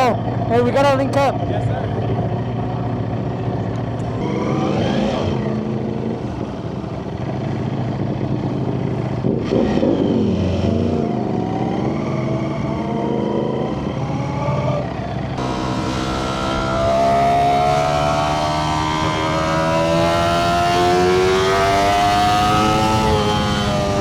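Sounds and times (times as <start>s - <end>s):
motorcycle engine accelerating: 1.2s - 24.0s.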